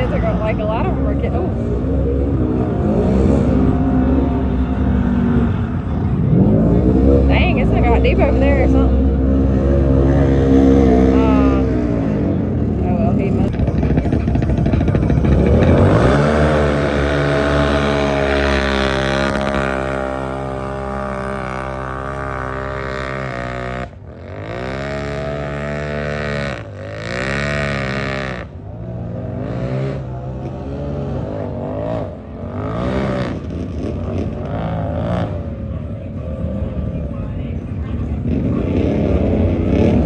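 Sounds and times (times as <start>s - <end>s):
racing vehicle engine revving: 0.0s - 37.0s, 38.2s - 40.0s.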